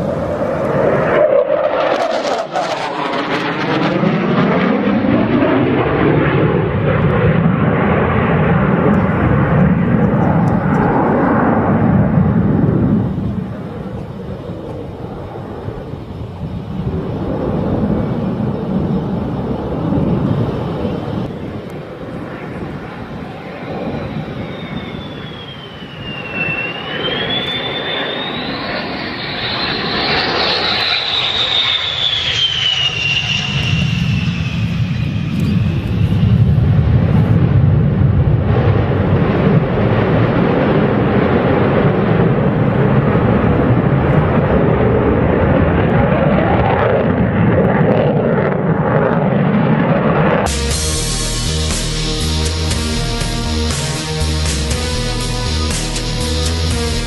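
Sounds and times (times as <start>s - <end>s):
deep jet rumble: 0.0s - 57.0s
jet engine whine: 0.0s - 57.0s.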